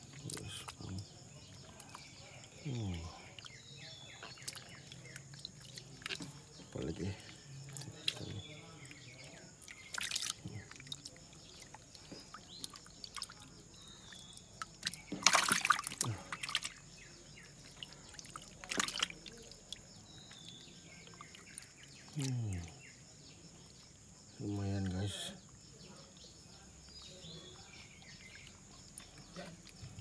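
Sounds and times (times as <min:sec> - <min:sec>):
water splashing and trickling: 0:00.0 - 0:26.2, 0:26.8 - 0:30.0.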